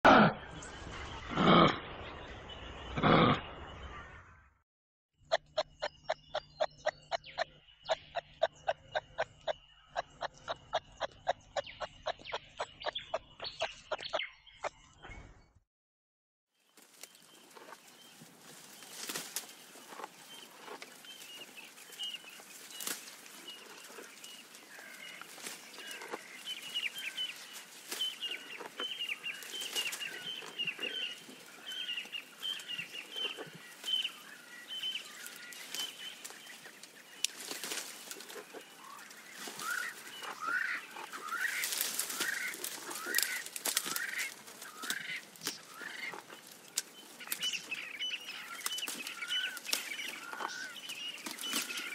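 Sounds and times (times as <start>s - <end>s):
birds chirping: 0.1s - 4.6s, 5.2s - 15.6s, 16.6s - 51.9s.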